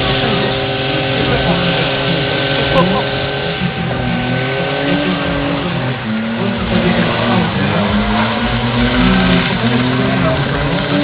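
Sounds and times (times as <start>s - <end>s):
car engine revving hard: 0.0s - 11.0s
spinning tyres squealing: 0.0s - 11.0s.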